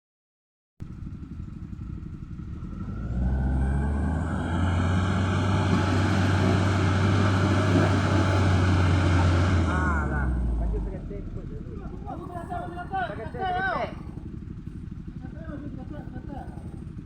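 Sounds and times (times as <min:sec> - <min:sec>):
truck engine running: 0:00.8 - 0:17.0.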